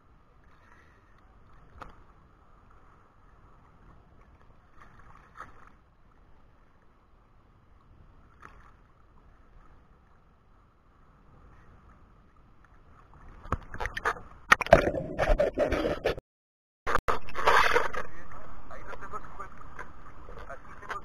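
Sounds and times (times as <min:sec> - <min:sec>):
waves lapping and sloshing: 0:00.0 - 0:16.2, 0:16.9 - 0:21.0.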